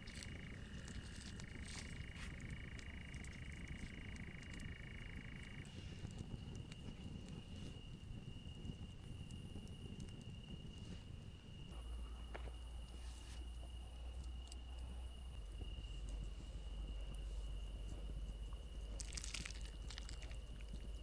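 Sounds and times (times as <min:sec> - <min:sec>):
faint low rumble: 0:00.0 - 0:21.0.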